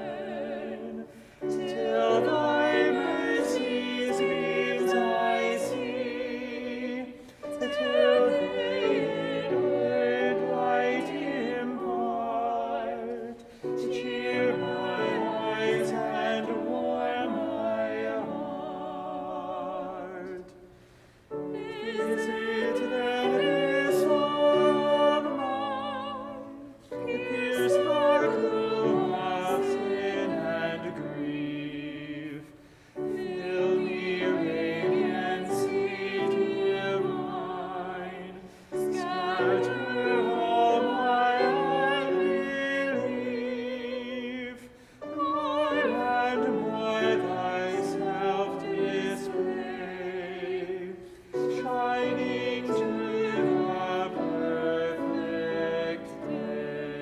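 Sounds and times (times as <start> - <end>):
classical church singing: 0.0 - 57.0.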